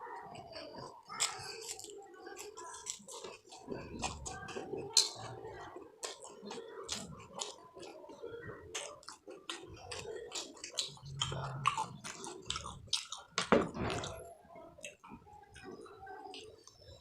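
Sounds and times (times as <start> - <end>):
person chewing and smacking: 0.2 - 14.2, 14.8 - 17.0.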